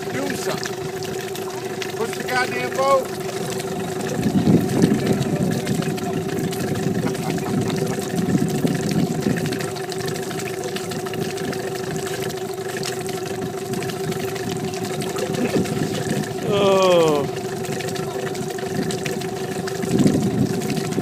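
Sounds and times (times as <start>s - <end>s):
boat motor running: 0.0s - 21.0s
water churning: 0.0s - 21.0s.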